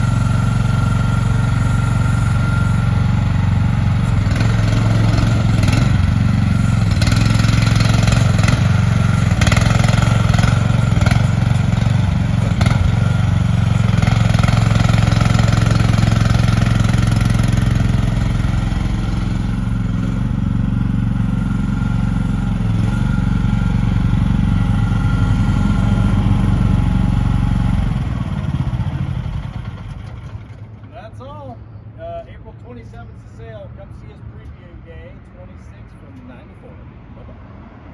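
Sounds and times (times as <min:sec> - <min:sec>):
excavator engine running: 0:00.0 - 0:34.6.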